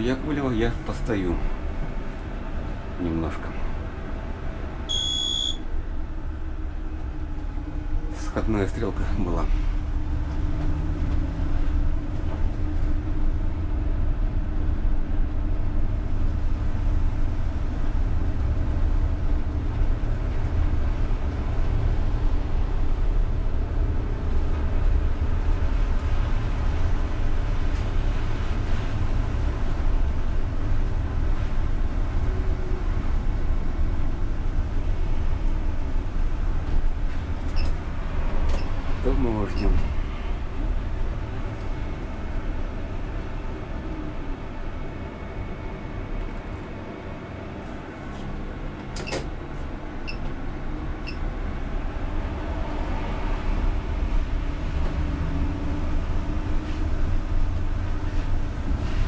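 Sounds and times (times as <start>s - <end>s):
rumble of tyres and running gear: 5.7s - 59.0s.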